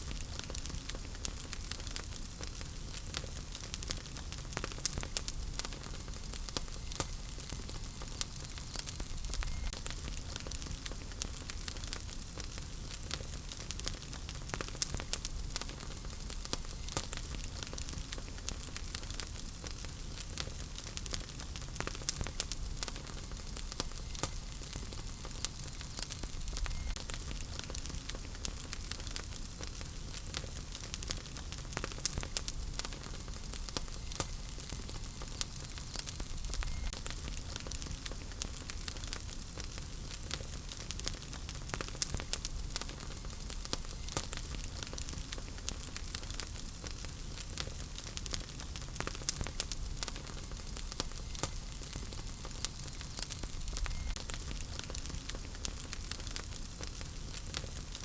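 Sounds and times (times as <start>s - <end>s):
logs crackling and popping: 0.0s - 58.0s
wood fire burning: 0.0s - 58.0s.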